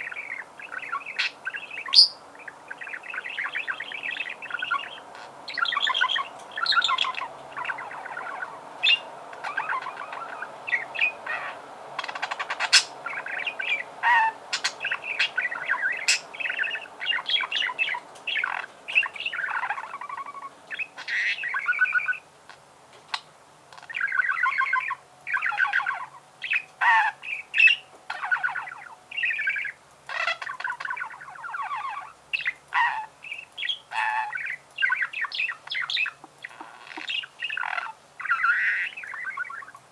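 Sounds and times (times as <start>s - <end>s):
budgerigar warbling and chattering: 0.0s - 22.2s, 23.8s - 39.8s.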